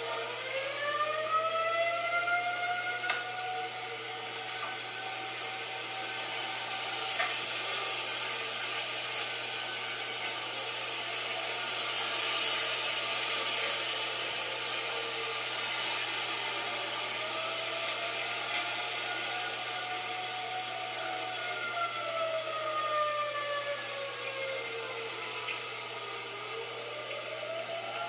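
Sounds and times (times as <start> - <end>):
faint tornado siren wailing: 0.0 - 28.0
steady loud hiss: 0.0 - 28.0.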